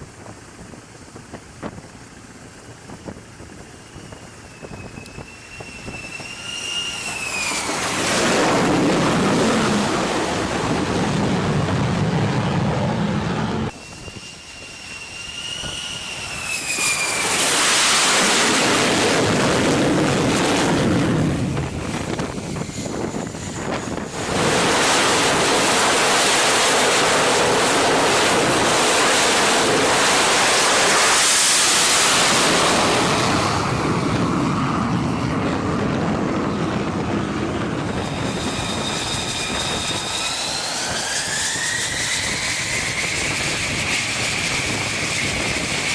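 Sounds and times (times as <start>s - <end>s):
jet engine roar: 0.0s - 45.9s
jet engine whine: 0.0s - 45.9s.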